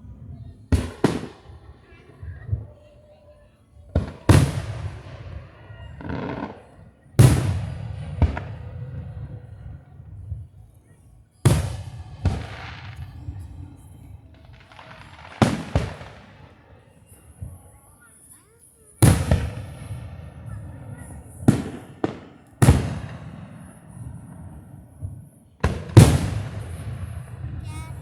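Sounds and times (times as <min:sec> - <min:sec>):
fireworks bangs: 0:00.0 - 0:02.9, 0:03.9 - 0:10.6, 0:11.4 - 0:28.0
fireworks crack: 0:00.0 - 0:03.0, 0:03.9 - 0:28.0
rolling echo: 0:03.9 - 0:18.2, 0:19.0 - 0:28.0.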